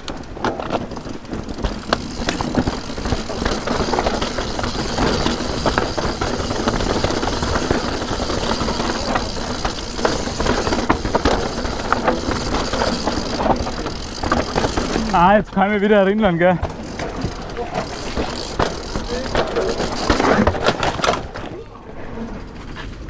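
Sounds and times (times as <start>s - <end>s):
tyres crunching over rocks: 0.0s - 21.4s
bike rattling and knocking: 0.0s - 21.6s.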